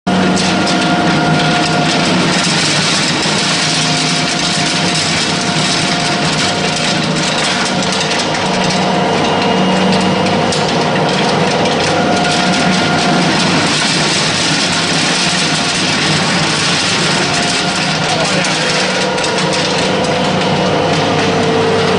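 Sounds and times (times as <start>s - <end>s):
machine whining tones: 0.1s - 21.9s
pellet mill machine running: 0.1s - 21.9s.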